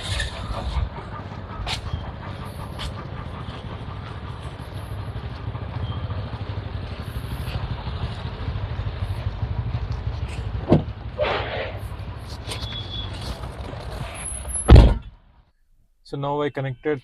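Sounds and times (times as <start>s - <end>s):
rumble of passing vehicles: 0.0s - 15.5s.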